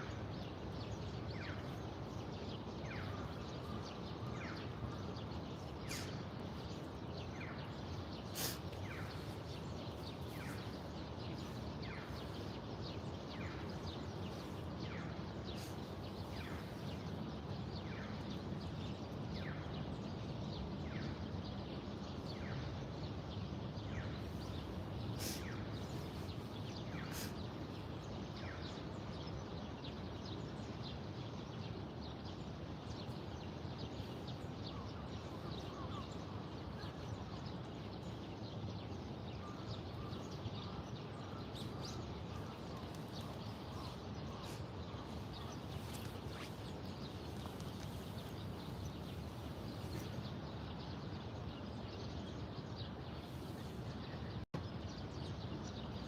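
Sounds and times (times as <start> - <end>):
birds chirping: 0.0 - 23.2, 23.8 - 56.0.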